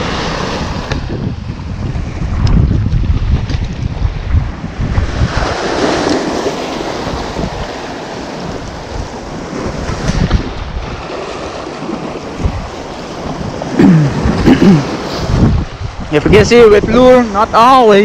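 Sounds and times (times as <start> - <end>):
waves washing over rocks: 0.0 - 18.0
wind buffeting microphone: 0.0 - 18.0.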